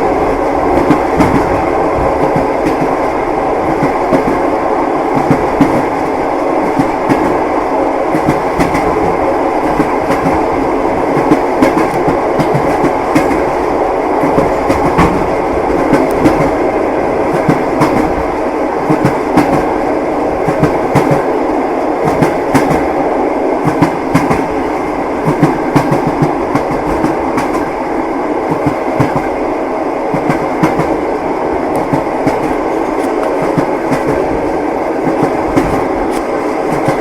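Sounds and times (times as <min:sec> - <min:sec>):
wheels clacking on rails: 0:00.0 - 0:23.0, 0:23.6 - 0:29.4, 0:30.0 - 0:37.0
train wheels rumbling on rails: 0:00.0 - 0:37.0.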